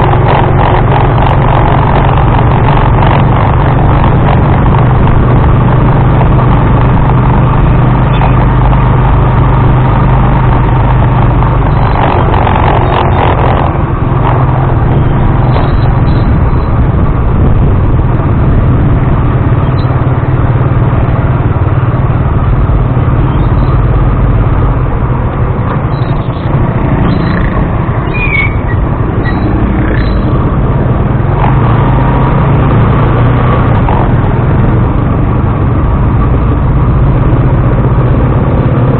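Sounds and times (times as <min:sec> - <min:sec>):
road and vibration noise: 0:00.0 - 0:38.9
tricycle engine running: 0:00.0 - 0:38.9.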